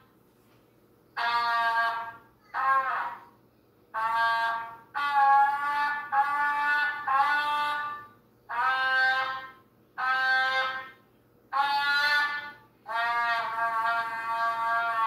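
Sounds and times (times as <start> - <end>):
trumpet playing held notes: 1.2 - 3.3, 3.9 - 15.0.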